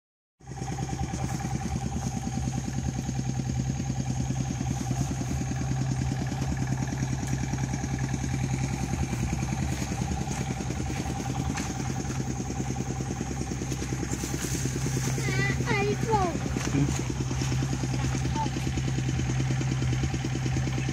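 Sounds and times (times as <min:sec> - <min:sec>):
tractor diesel engine idling: 0:00.4 - 0:20.9.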